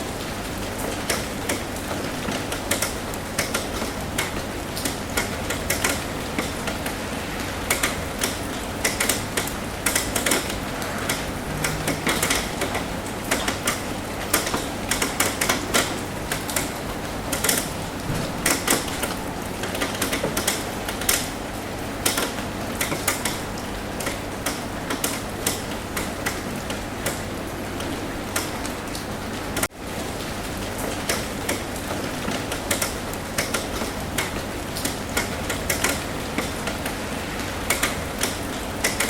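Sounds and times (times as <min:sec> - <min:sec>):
rain tapping on a roof: 0:00.0 - 0:39.0
steady hiss of rain: 0:00.0 - 0:39.0.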